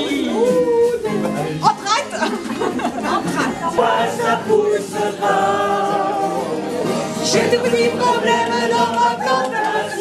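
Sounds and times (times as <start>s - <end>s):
group of people singing: 0.0s - 10.0s.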